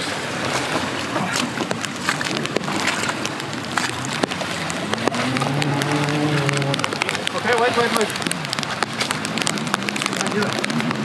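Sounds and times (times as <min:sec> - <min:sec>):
muddy water splashes: 0:00.0 - 0:11.0.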